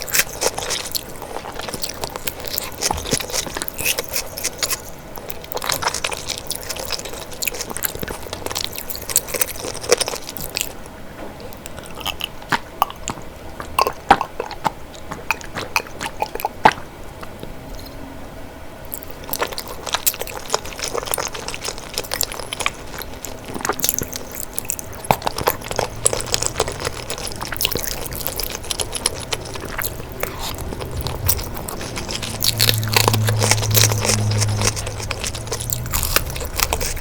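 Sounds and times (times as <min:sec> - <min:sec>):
chewing and biting: 0:00.0 - 0:17.9, 0:18.9 - 0:37.0.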